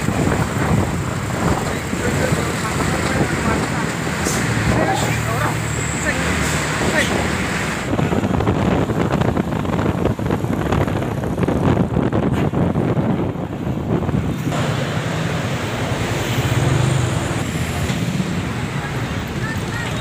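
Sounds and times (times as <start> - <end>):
truck road noise: 0.0 - 20.0
wind buffeting microphone: 0.0 - 20.0.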